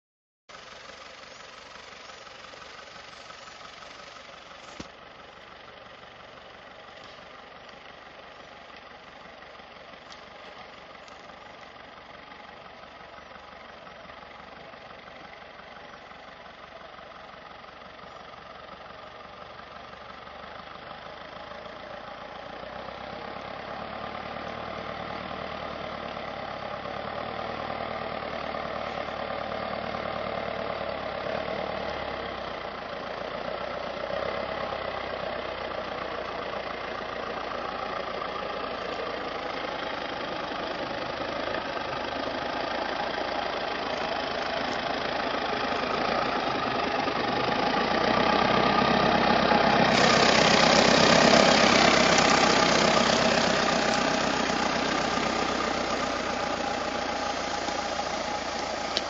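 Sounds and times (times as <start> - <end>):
tractor engine running: 0.5 - 59.0.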